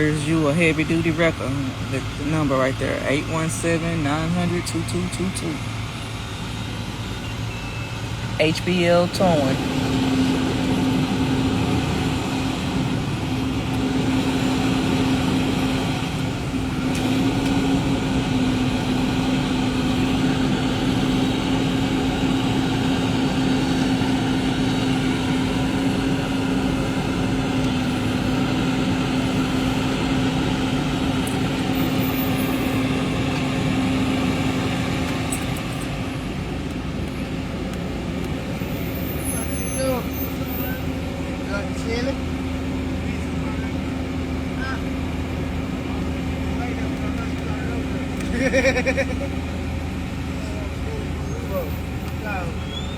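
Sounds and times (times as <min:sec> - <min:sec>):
vehicle engine running: 0:00.0 - 0:52.9.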